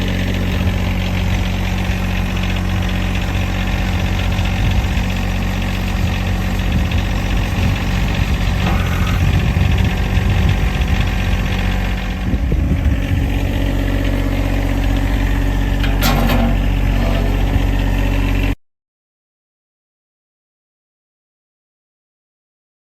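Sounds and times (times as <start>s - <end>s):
tractor engine running: 0.0s - 18.6s.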